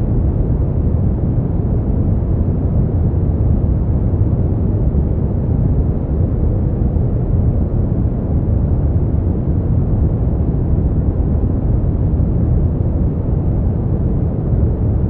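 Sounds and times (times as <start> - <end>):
brown noise rumbling hiss: 0.0 - 15.0.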